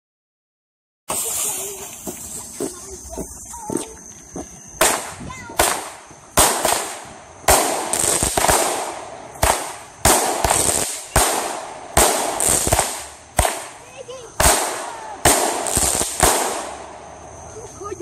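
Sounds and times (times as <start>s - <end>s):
fireworks bangs and crackling: 1.1s - 3.9s, 4.7s - 18.0s.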